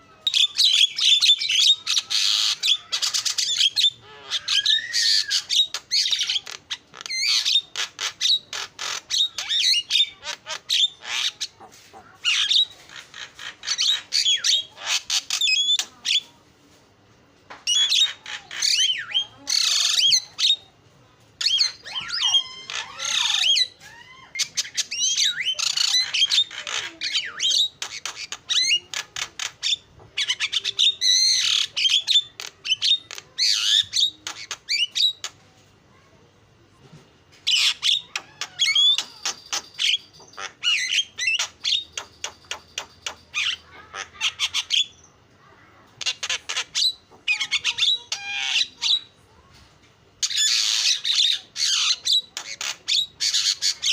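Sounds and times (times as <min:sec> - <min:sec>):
myna bird singing: 0:00.0 - 0:16.3, 0:17.6 - 0:20.8, 0:21.4 - 0:35.4, 0:37.4 - 0:45.3, 0:45.9 - 0:49.2, 0:50.2 - 0:53.9.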